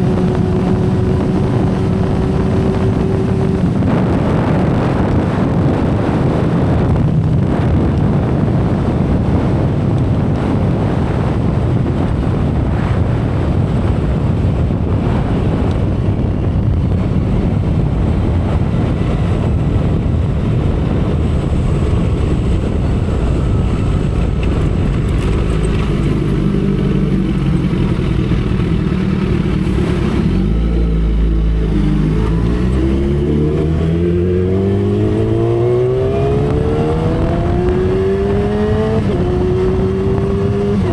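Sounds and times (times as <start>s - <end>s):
motorcycle engine running: 0.0s - 40.9s
wind rushing: 0.0s - 40.9s.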